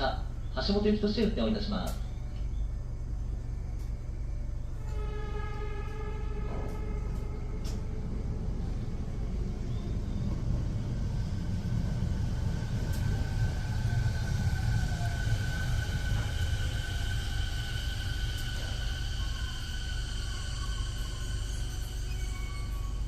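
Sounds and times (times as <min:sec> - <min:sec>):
electric train rumbling: 0:00.0 - 0:23.0
high whine: 0:00.0 - 0:23.0.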